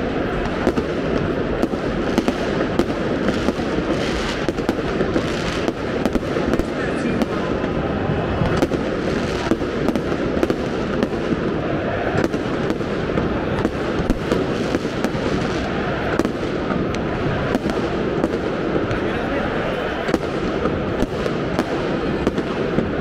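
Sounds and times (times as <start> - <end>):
crowd celebrating: 0.0 - 23.0
fireworks bangs and crackles: 0.0 - 23.0.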